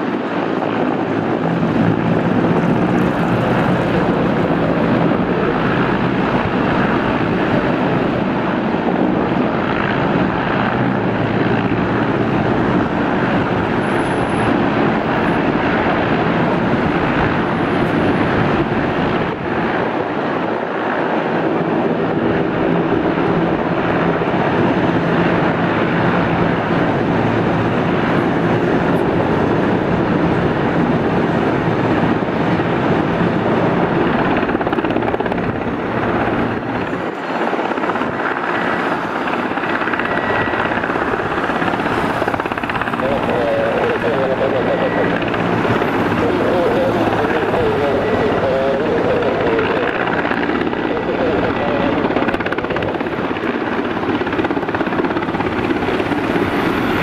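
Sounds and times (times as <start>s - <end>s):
helicopter rotor and turbine noise: 0.0s - 57.0s.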